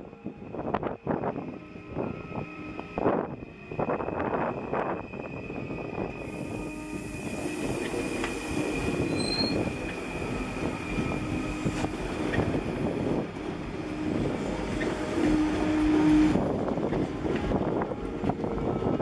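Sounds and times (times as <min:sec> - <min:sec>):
train wheels rumbling on rails: 0:00.3 - 0:19.0.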